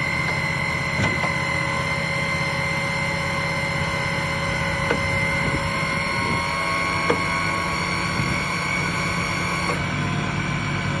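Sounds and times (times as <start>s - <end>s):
engine and pump drone: 0.0s - 11.0s
high hydraulic whine: 0.0s - 11.0s.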